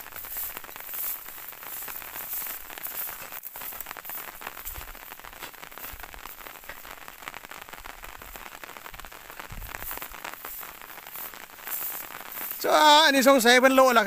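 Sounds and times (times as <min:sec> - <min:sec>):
rain pattering on plants: 0:00.0 - 0:14.0.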